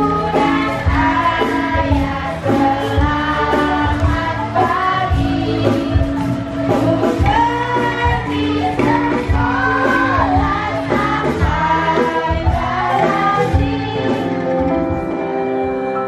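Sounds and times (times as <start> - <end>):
women singing: 0.0 - 14.5.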